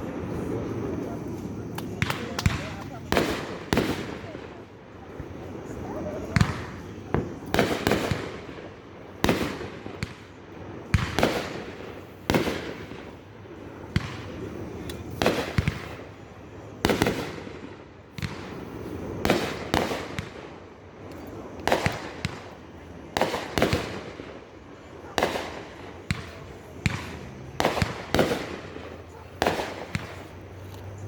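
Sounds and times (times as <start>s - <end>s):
firework crackle: 0.0s - 31.0s
fireworks banging: 0.0s - 31.0s.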